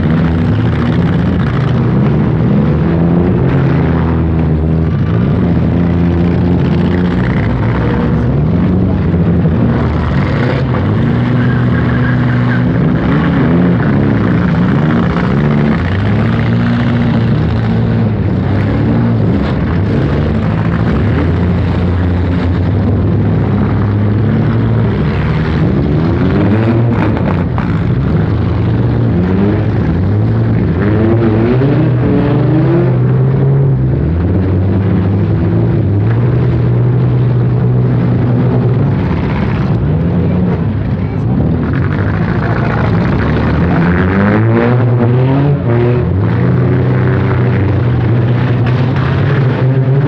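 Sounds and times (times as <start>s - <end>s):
car engines revving: 0.0s - 50.0s.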